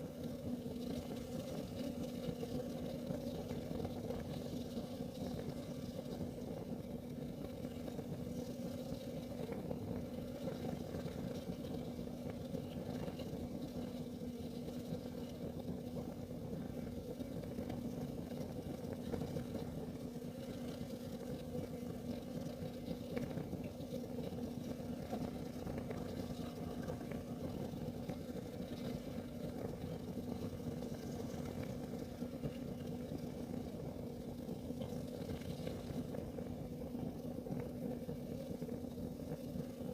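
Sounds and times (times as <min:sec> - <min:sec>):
heater burning with low hum: 0:00.0 - 0:39.9.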